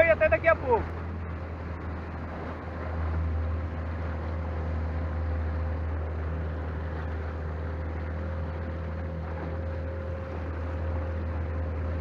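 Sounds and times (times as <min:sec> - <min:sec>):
choppy water wash: 0:00.0 - 0:12.0
outboard motor running: 0:00.0 - 0:12.0
wind: 0:00.0 - 0:12.0.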